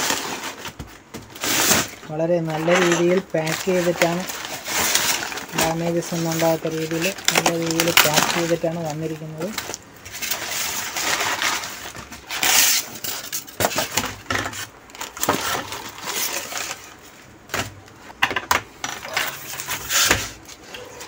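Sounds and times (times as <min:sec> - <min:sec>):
wrapping rustling and crinkling: 0:00.0 - 0:18.1, 0:18.8 - 0:21.0.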